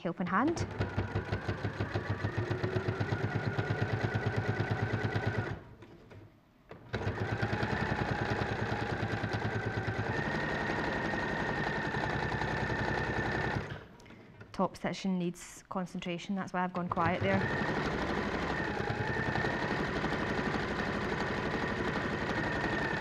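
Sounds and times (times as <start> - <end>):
sewing machine stitching: 0.4 - 14.0, 16.8 - 23.0.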